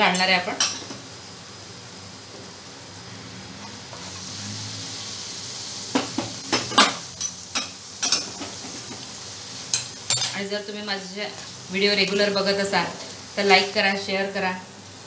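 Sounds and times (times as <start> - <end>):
milk sizzling in a hot pan: 0.0 - 15.0.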